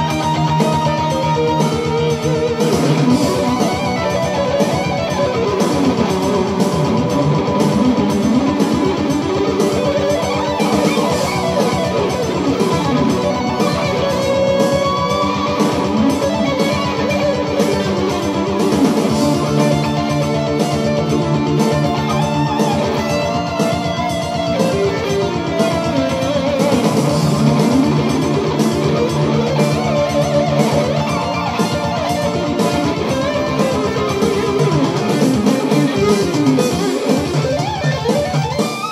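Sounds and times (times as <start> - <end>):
distorted electric guitar lead: 0.0 - 38.9.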